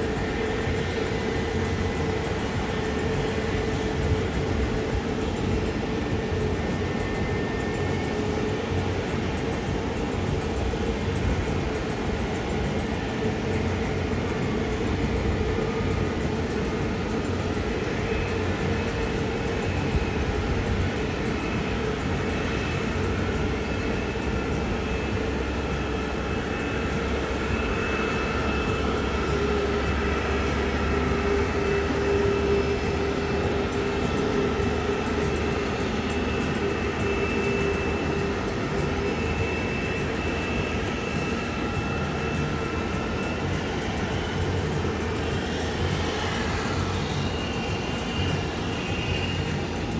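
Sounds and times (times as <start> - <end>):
jet engines rumbling and whining: 0.0 - 49.9.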